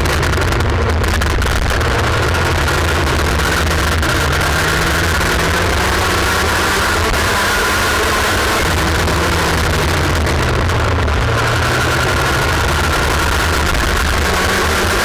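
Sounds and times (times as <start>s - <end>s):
kart engine running hard: 0.0s - 15.0s.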